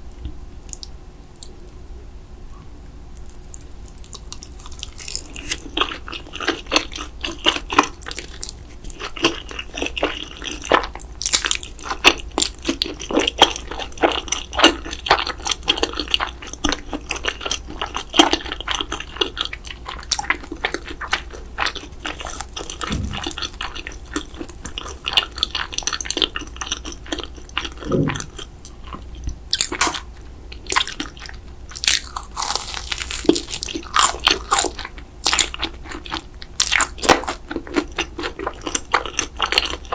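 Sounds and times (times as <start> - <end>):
person chewing crunchy food: 3.3 - 39.9.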